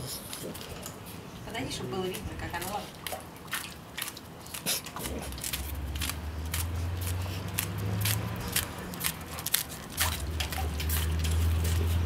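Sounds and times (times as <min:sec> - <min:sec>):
paw splashing water in bowl: 0:00.0 - 0:12.0.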